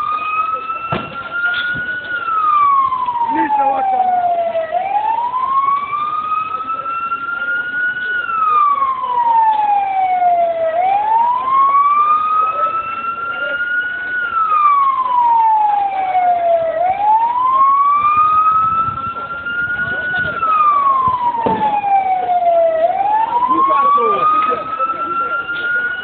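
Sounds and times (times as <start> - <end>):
siren wailing: 0.0 - 26.0.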